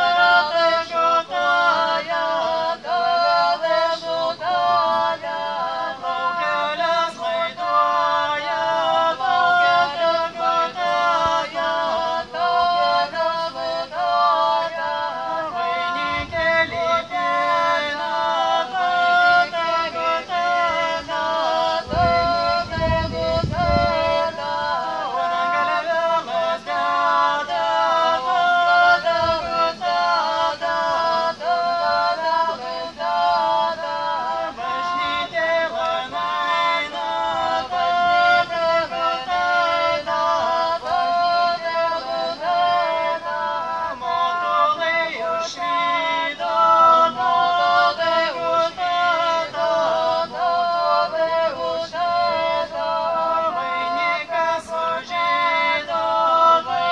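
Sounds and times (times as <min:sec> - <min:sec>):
voices singing a cappella: 0:00.0 - 0:56.9.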